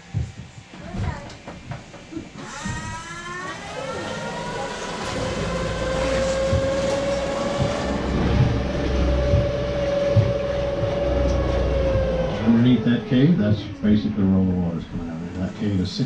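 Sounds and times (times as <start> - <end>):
boat motor whining: 2.0 - 16.0.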